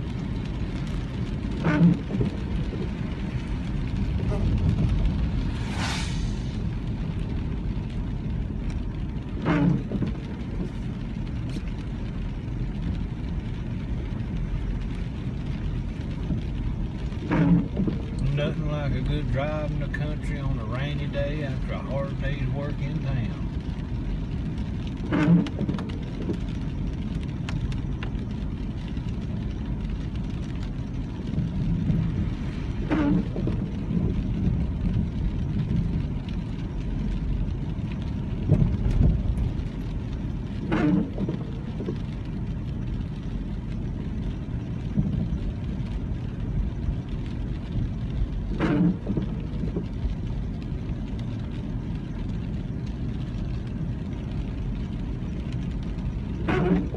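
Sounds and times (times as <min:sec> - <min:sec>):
car engine and road rumble: 0:00.0 - 0:56.9.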